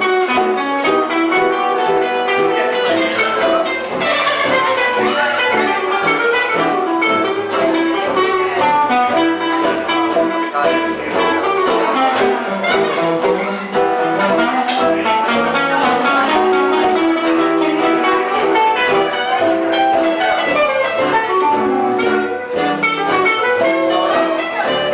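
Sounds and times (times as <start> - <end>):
live band playing music: 0.0 - 24.9
plucked guitar: 0.0 - 24.9.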